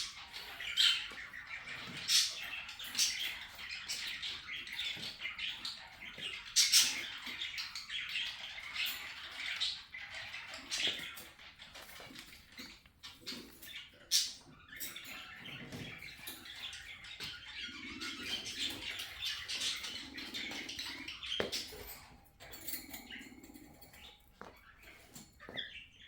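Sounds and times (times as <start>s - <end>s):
pets rustling and scratching: 0.0s - 26.0s.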